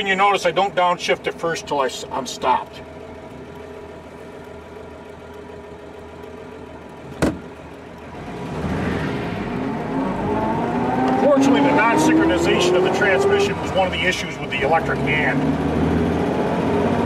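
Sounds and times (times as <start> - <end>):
car engine idling and accelerating: 0.0 - 17.0.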